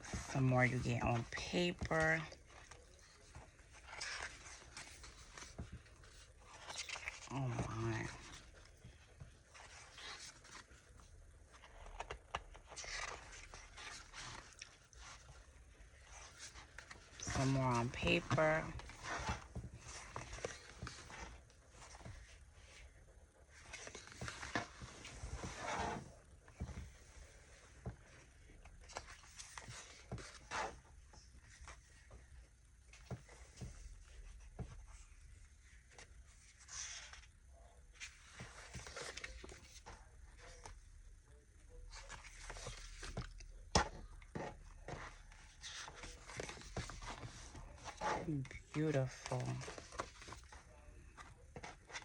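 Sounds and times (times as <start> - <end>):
paper rustling: 0.0 - 52.0.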